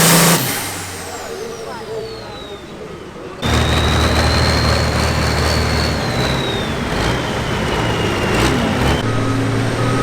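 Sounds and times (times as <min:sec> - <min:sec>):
high turbo whistle: 0:00.0 - 0:09.0
diesel engine running under load: 0:00.0 - 0:09.1.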